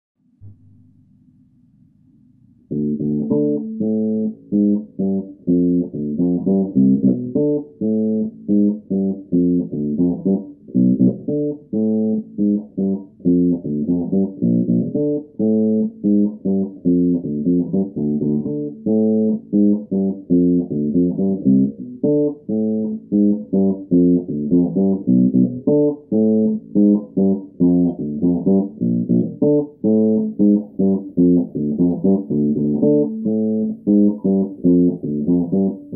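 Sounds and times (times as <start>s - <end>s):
electric bass guitar riff: 2.7s - 35.9s.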